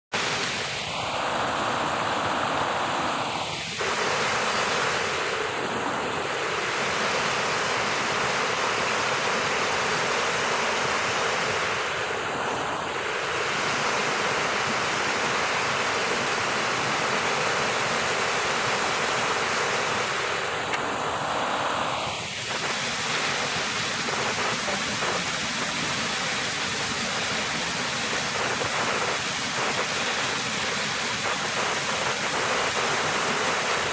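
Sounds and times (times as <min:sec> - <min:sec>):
water splashing over rocks: 0:00.2 - 0:33.9.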